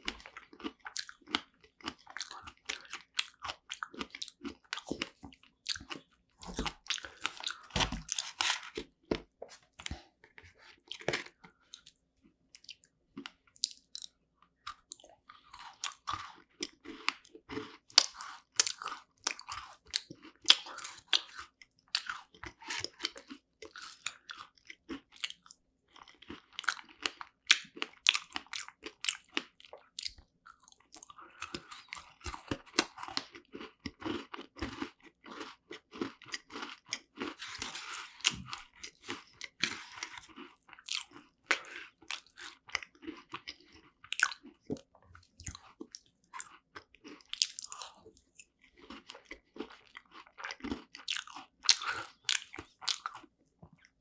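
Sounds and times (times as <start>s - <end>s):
chewing and crunching pastry: 0.0s - 54.0s.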